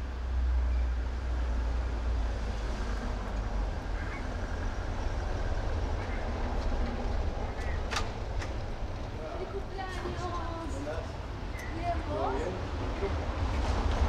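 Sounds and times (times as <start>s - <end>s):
street noise hum: 0.0s - 14.0s.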